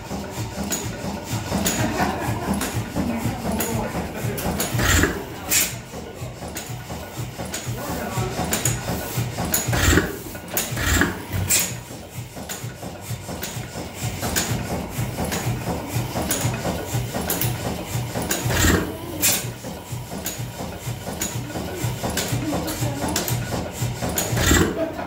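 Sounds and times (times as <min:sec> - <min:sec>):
stationary engine thumping: 0:00.0 - 0:25.0.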